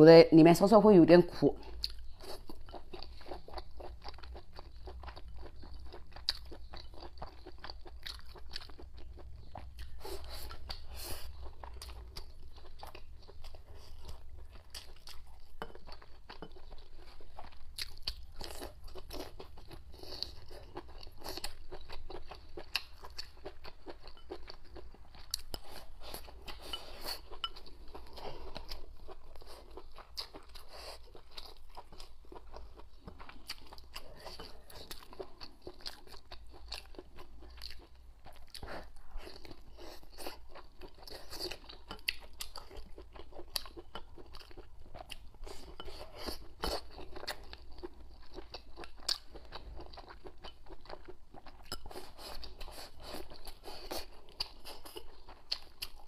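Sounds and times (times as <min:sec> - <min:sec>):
person chewing and crunching food: 0:01.6 - 0:56.0.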